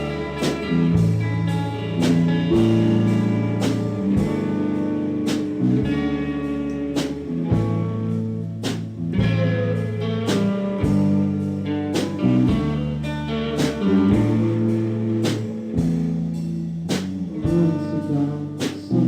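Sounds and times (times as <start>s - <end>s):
held guitar chords: 0.0s - 19.0s.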